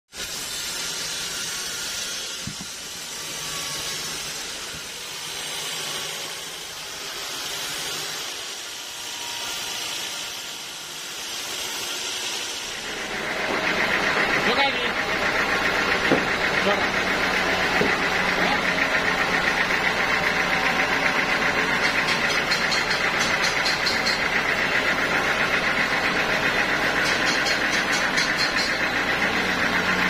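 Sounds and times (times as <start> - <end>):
band saw whirring: 0.1 - 30.0.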